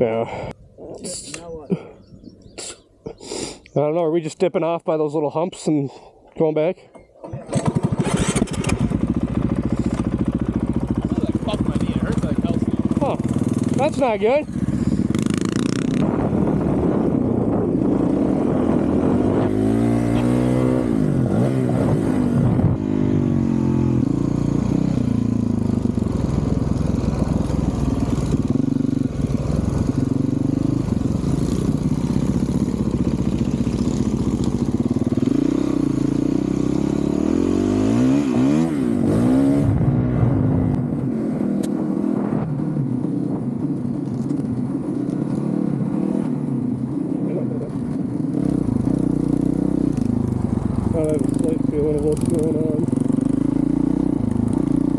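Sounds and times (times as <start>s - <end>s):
motorcycle engine revving: 7.2s - 54.9s.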